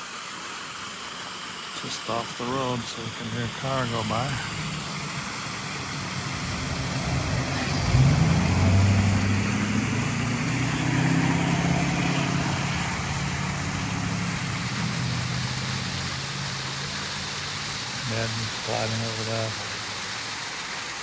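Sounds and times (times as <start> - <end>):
small waterfall rushing: 0.0 - 21.0
vehicle passing: 3.0 - 20.1.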